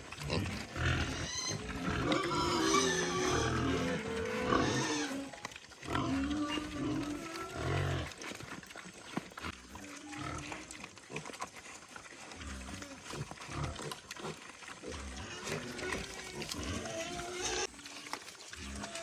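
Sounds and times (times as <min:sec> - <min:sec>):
pigs squealing and grunting: 0:00.0 - 0:19.0.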